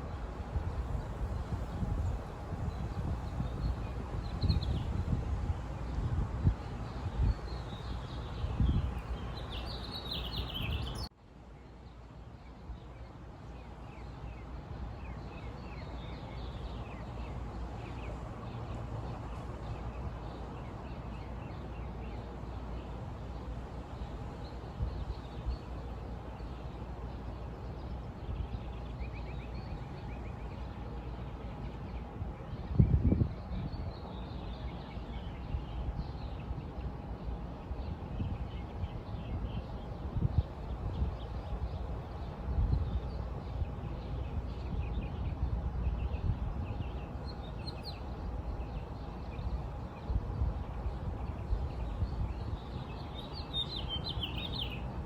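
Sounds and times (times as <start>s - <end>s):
outdoor background hiss: 0.0s - 55.0s
small birds chirping: 6.8s - 11.1s, 13.6s - 55.0s.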